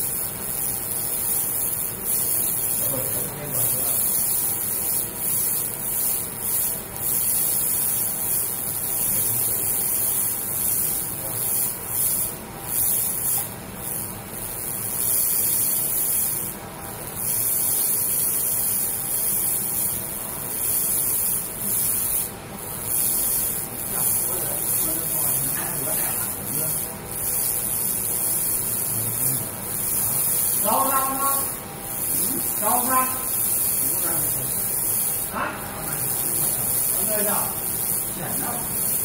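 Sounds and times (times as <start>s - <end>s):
laser cleaning high-pitched hiss: 0.0s - 39.0s.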